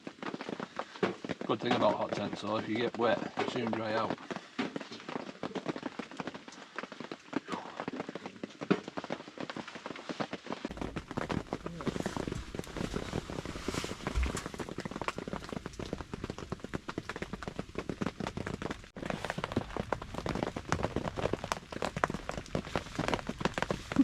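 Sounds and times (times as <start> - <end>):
heavy rain pattering: 0.0 - 24.0.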